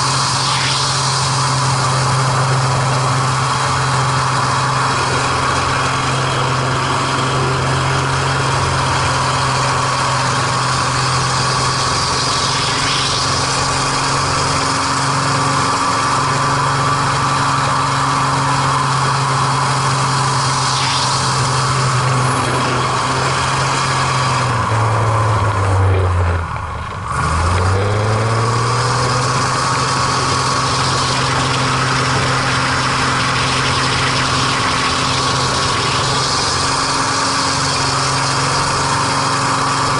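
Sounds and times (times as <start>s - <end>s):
plane engine and propeller: 0.0s - 39.9s
rushing air: 0.0s - 39.9s.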